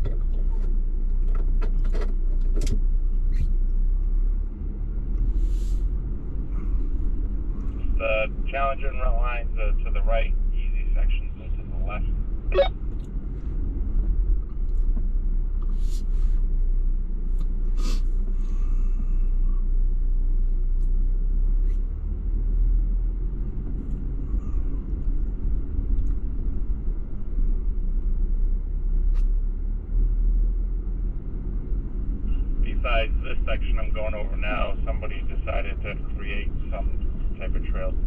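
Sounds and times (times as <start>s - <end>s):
vehicle engine running low: 0.0s - 38.0s.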